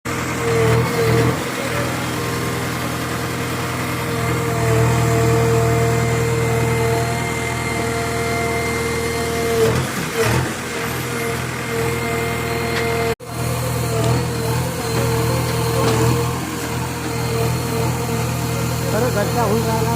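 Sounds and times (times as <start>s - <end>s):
diesel engine running: 0.1s - 19.9s.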